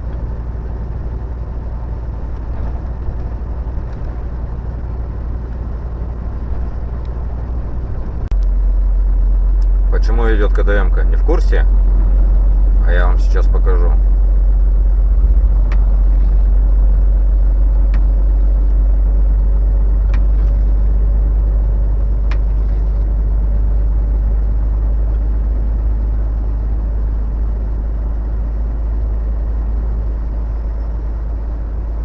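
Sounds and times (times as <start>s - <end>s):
truck engine and road rumble: 0.0s - 32.0s.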